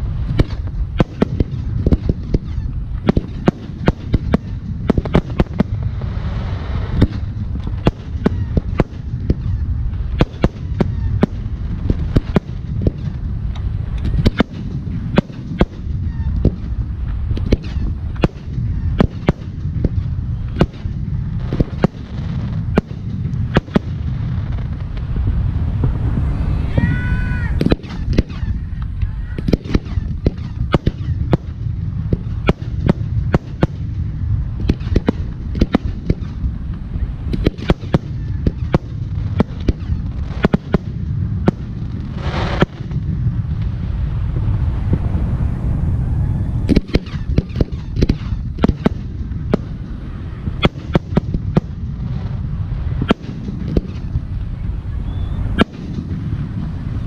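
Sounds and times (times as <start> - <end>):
low rumble: 0.0 - 57.0
firework shells bursting: 0.2 - 25.1, 27.6 - 43.8, 46.6 - 54.4.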